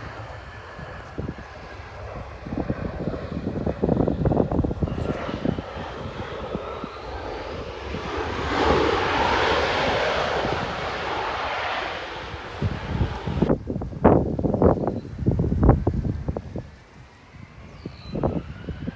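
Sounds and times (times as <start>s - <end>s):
jet airliner passing overhead: 0.0s - 18.9s
wind buffeting microphone: 0.0s - 18.9s.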